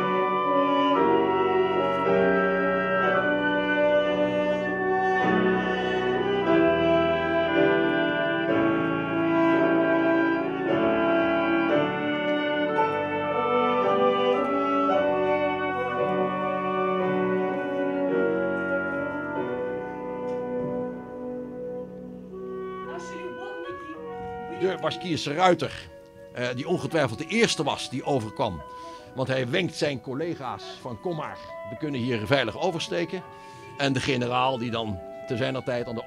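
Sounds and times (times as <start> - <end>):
orchestral music with brass: 0.0 - 36.0.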